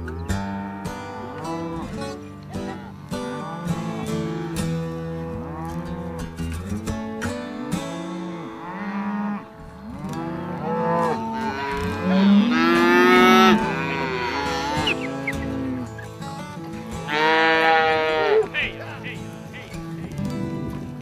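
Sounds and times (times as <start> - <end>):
cattle mooing: 0.1 - 6.5, 7.4 - 16.1, 17.0 - 19.2.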